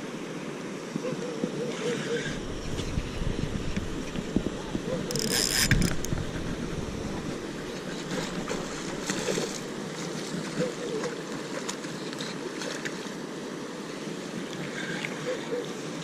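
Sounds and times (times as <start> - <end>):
moving water: 0.0 - 16.0
wind: 0.0 - 16.0
water splashes: 1.8 - 16.0.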